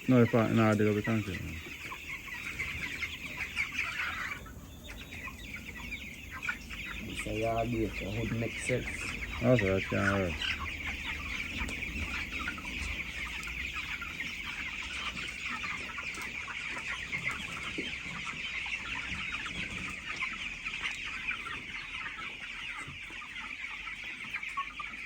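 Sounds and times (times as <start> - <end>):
chickens cheeping: 0.0 - 25.0.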